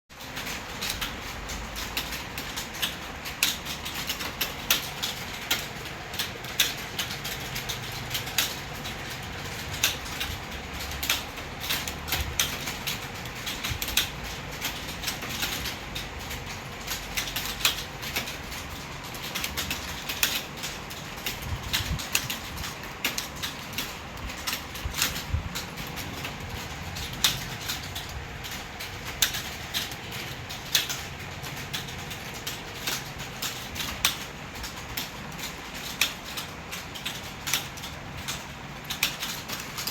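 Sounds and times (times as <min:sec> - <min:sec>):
person typing on keyboard: 0:00.1 - 0:39.9.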